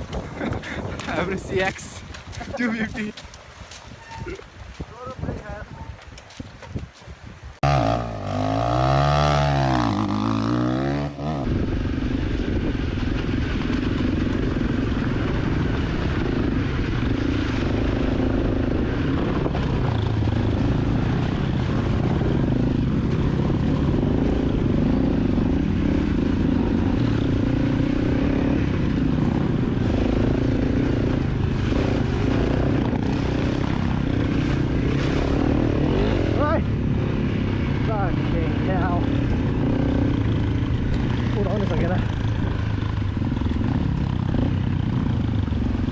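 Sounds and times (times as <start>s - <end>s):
wind noise: 0.0s - 45.9s
dirt bike engine running: 7.6s - 45.9s.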